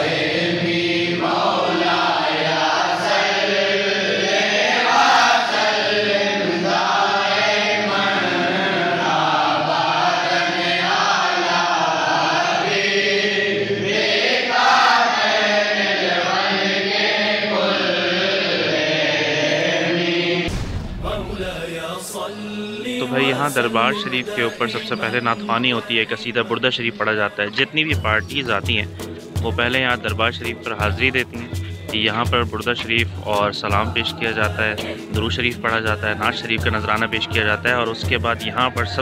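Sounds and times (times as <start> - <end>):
men chanting in unison: 0.0 - 20.5, 21.1 - 39.0.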